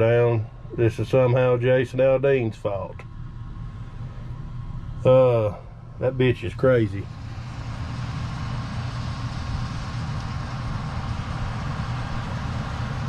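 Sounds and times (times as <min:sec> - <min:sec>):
vehicle engine drone from inside cab: 0:00.0 - 0:13.0.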